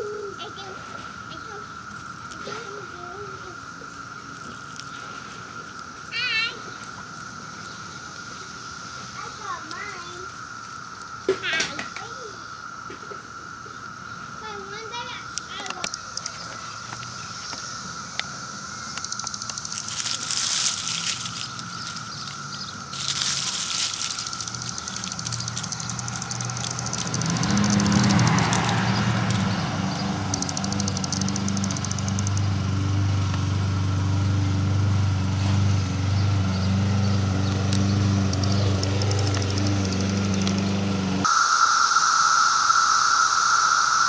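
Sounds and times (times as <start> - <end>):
cicadas droning: 0.0 - 44.0
hissing buzzes: 0.0 - 44.0.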